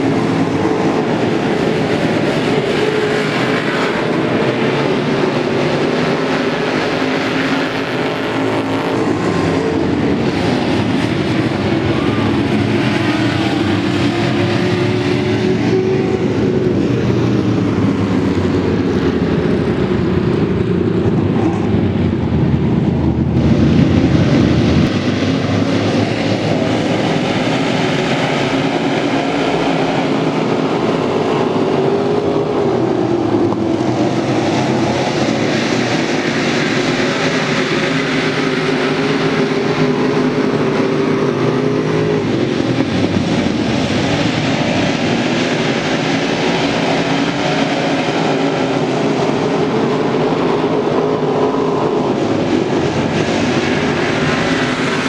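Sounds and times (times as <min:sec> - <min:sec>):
race car engines running hard: 0:00.0 - 0:55.0.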